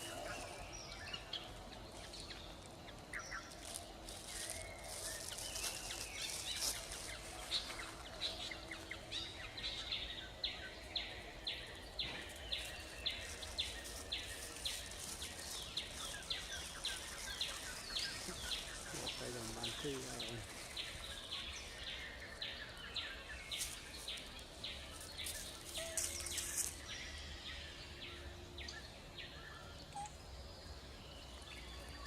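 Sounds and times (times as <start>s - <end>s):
birds calling: 0.0s - 32.0s.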